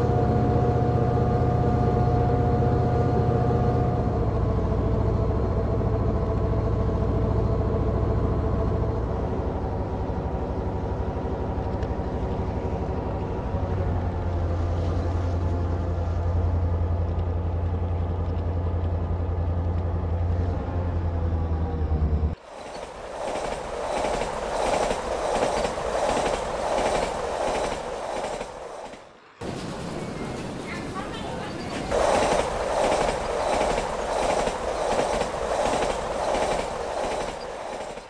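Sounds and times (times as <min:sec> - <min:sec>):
railcar engine drone: 0:00.0 - 0:38.0.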